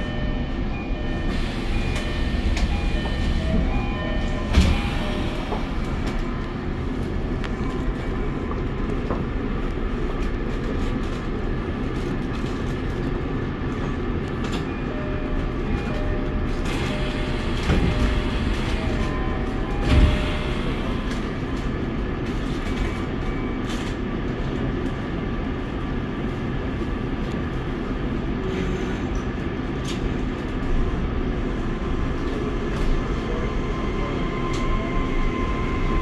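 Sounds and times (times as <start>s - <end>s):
train equipment low hum: 0.0s - 36.0s.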